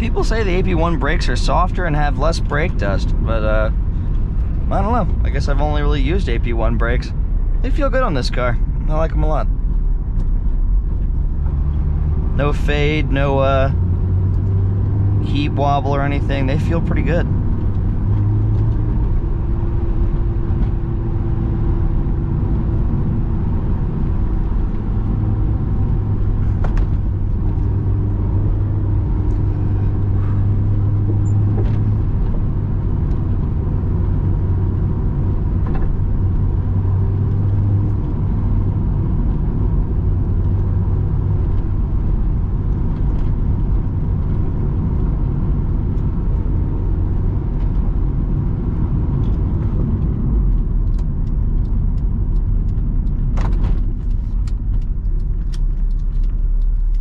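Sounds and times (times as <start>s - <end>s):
car engine drone: 0.0s - 57.0s
road rumble: 0.0s - 57.0s.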